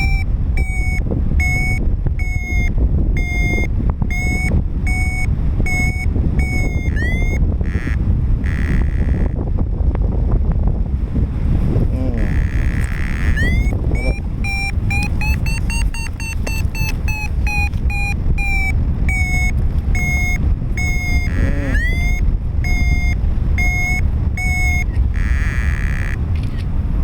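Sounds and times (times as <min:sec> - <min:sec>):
variometer beeps: 0:00.0 - 0:09.4, 0:12.0 - 0:26.6
wind buffeting microphone: 0:00.0 - 0:27.0.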